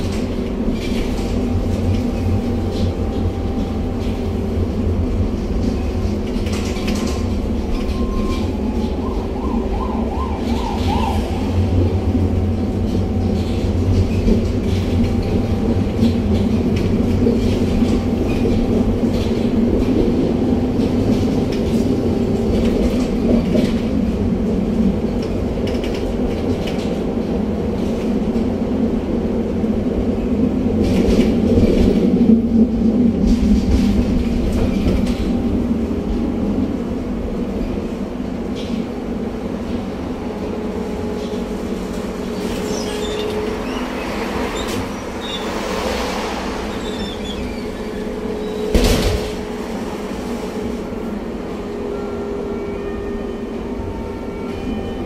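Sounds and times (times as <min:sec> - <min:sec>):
wheel rumble on rails: 0:00.0 - 0:51.7
tram motor hum: 0:00.0 - 0:55.0.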